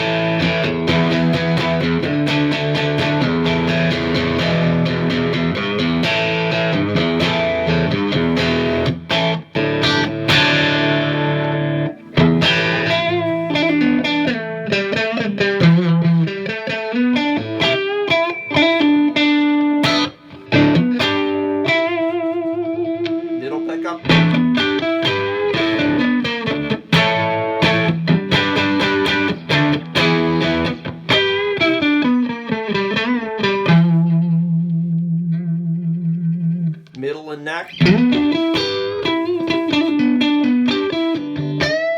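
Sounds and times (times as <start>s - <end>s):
electric guitar playing: 0.0s - 41.9s.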